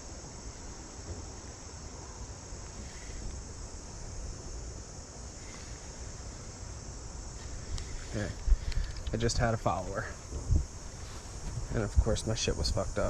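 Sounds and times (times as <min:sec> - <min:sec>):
crickets chirping: 0:00.0 - 0:13.0
low outdoor rumble: 0:00.0 - 0:13.0.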